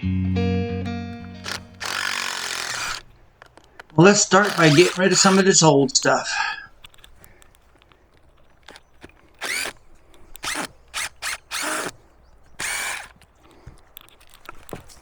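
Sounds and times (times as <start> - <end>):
cordless drill whirring: 1.1 - 5.8, 6.6 - 15.0.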